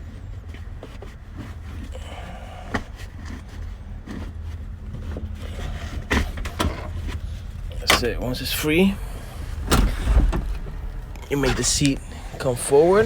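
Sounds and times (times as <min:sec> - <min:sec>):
seat belt scraping and rustling: 0:00.0 - 0:13.0
steady low rumble: 0:01.7 - 0:13.0.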